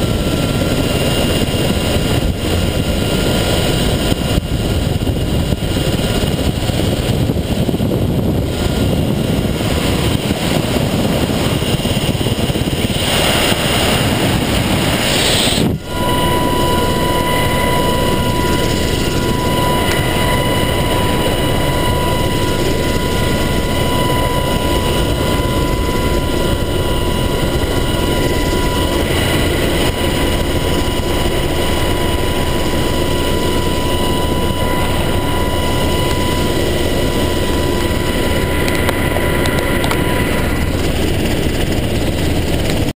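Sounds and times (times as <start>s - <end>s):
high whine: 0.0s - 42.8s
helicopter engine and rotor noise: 0.0s - 43.0s.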